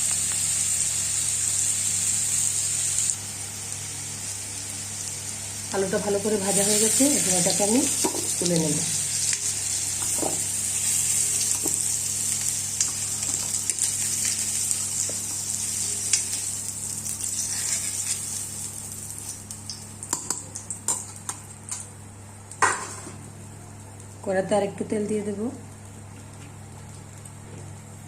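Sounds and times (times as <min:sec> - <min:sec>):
potatoes sizzling in hot oil: 0:00.0 - 0:23.1.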